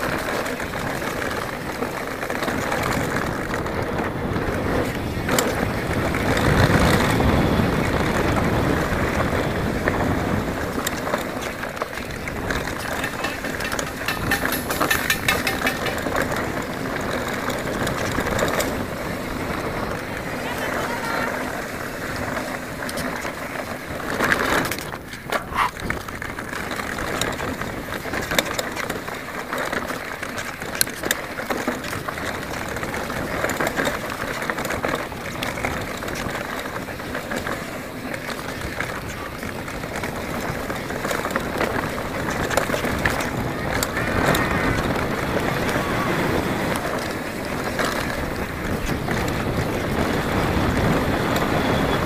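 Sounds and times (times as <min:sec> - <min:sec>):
bike rattling and knocking on bumps: 0:00.0 - 0:52.0
tyres rushing on dirt: 0:00.0 - 0:52.0.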